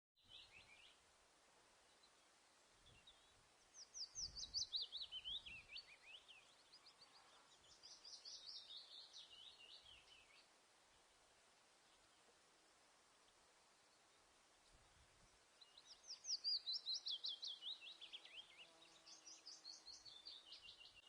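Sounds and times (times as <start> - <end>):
songbird trilling chirps: 0.2 - 1.0, 1.8 - 10.5, 13.1 - 21.0.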